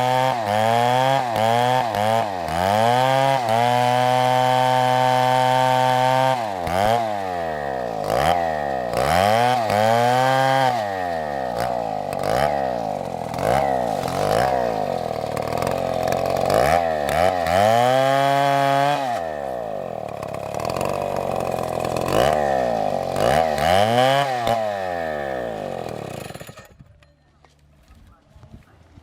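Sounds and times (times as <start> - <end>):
chainsaw engine revving: 0.0 - 26.8.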